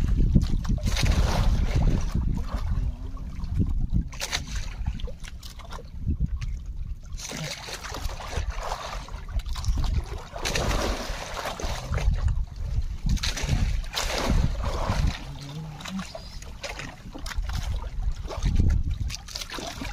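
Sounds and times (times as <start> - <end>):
constant low rumble: 0.0 - 19.9
water sloshing and splashing: 0.0 - 19.9.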